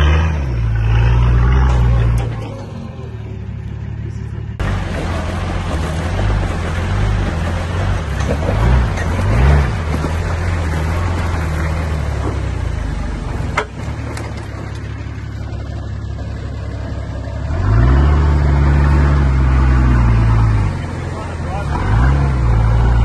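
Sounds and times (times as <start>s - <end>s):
engine revving: 0.0s - 23.0s
off-road vehicle engine under load: 0.0s - 23.0s.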